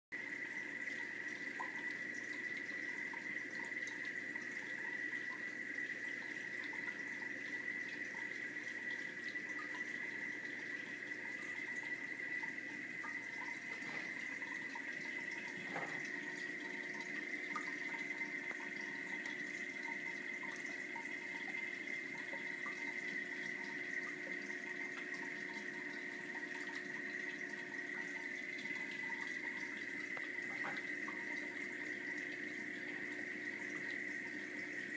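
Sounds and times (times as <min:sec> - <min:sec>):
water drips: 0:00.2 - 0:34.9
water rushing and trickling: 0:01.0 - 0:34.9.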